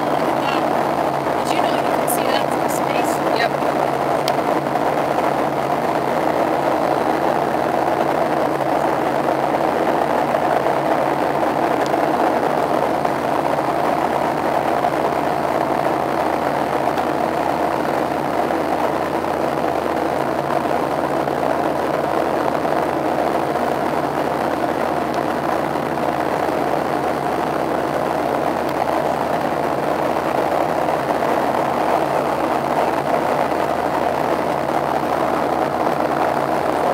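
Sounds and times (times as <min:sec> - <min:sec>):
jet engines droning: 0:00.0 - 0:36.9
rushing airflow: 0:00.0 - 0:36.9.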